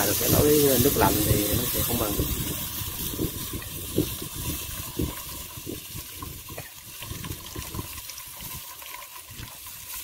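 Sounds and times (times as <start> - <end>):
liquid pouring into a pan: 0.0 - 10.0.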